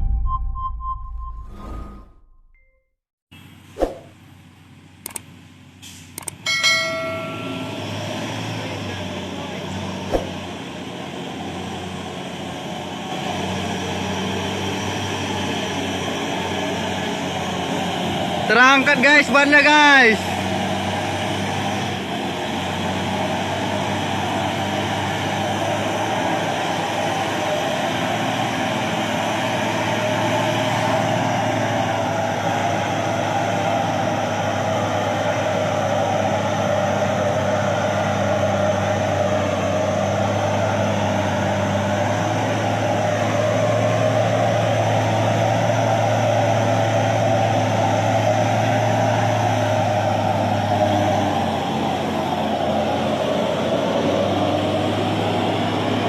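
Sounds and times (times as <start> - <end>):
heavy diesel engines droning: 3.4 - 56.0.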